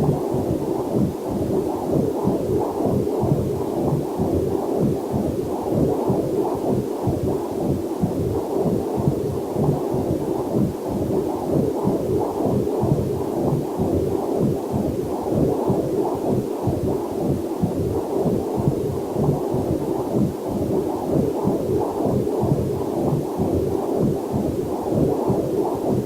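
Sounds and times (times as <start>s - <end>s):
heartbeat whooshing pulses: 0.0s - 26.0s.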